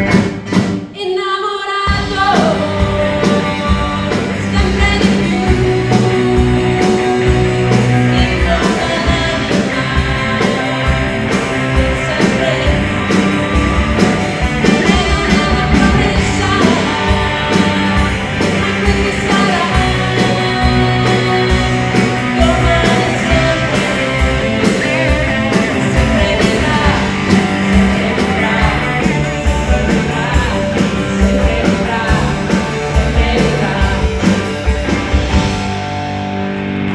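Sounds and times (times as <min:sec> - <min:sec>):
bass guitar: 0:00.0 - 0:00.9, 0:01.9 - 0:36.9
drums: 0:00.0 - 0:36.9
person singing: 0:01.0 - 0:34.9
electric guitar: 0:01.9 - 0:36.9.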